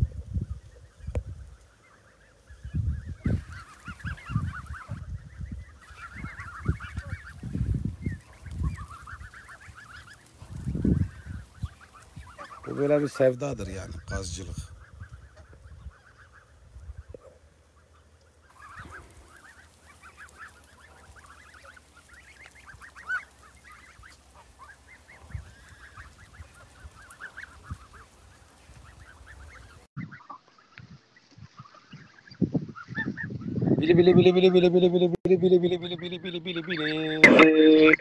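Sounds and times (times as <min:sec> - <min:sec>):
geese honking: 0:00.4 - 0:38.0.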